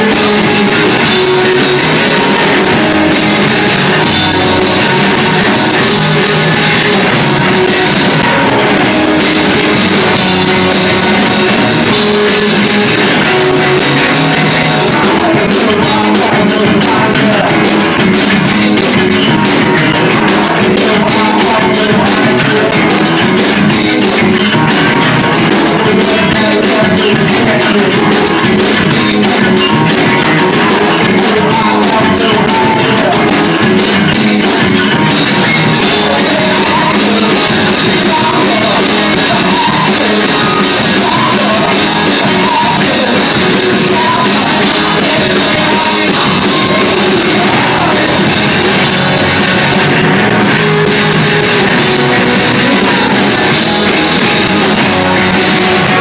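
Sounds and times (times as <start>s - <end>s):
drum kit beat: 0.0s - 56.0s
rock band playing: 0.0s - 56.0s.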